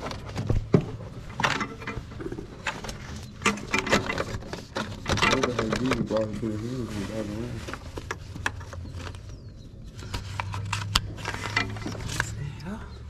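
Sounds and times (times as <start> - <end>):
handling clicks taps and rustles: 0.0 - 6.6, 7.6 - 12.4.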